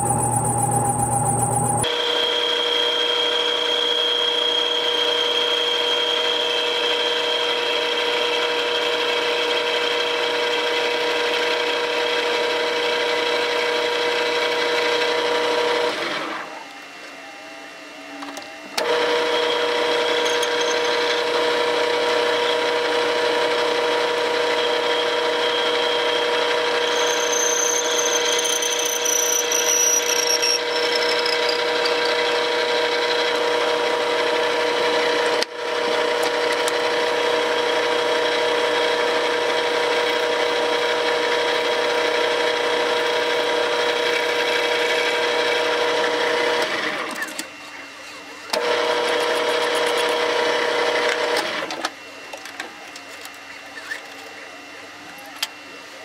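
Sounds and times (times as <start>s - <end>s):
metal lathe whining: 0.0s - 56.0s.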